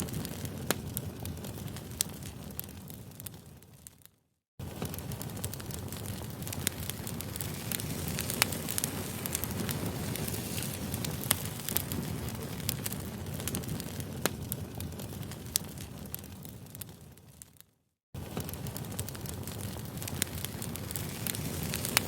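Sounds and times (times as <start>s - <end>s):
campfire low rumble: 0.0s - 3.9s, 4.6s - 17.4s, 18.2s - 22.0s
burning wood crackling: 0.0s - 22.0s.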